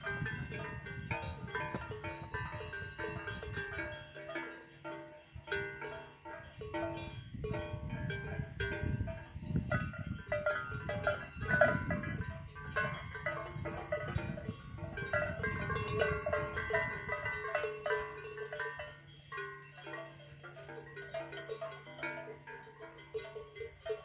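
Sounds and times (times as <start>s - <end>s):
cowbells clanking: 0.0s - 24.0s.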